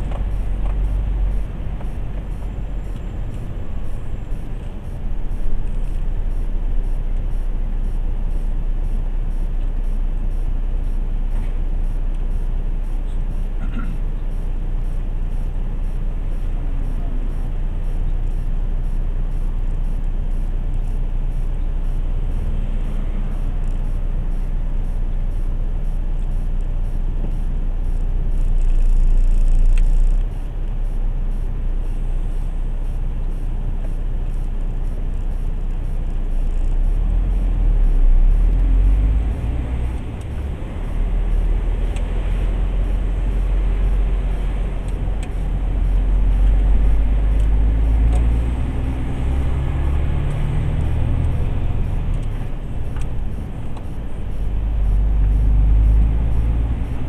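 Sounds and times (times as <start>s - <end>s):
truck diesel engine rumbling: 0.0s - 57.0s.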